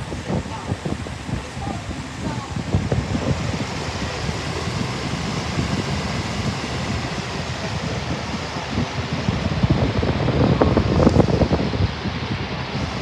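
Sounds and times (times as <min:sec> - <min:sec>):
air buffeting microphone: 0:00.0 - 0:13.0
box fan running: 0:00.0 - 0:13.0.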